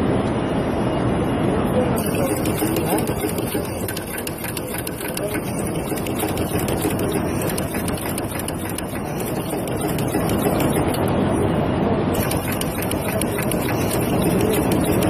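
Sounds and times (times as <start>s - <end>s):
machine punching head clicking: 2.0s - 11.2s, 12.2s - 15.0s
steady background din: 2.0s - 11.5s, 12.1s - 15.0s.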